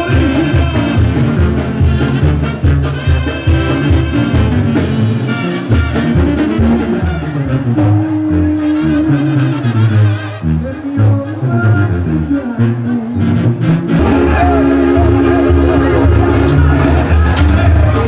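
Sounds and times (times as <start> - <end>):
tuba and drum beat: 0.0 - 12.2, 12.8 - 18.0
brass band music: 0.0 - 18.0.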